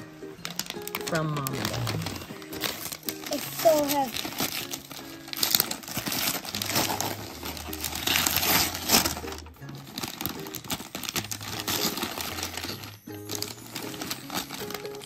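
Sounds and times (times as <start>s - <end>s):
wrapping paper ripping and crinkling: 0.4s - 15.0s.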